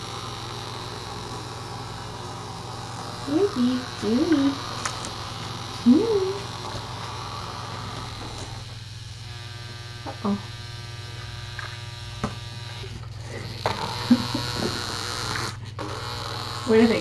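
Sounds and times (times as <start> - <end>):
motorized toy bug buzzing: 0.0 - 17.0.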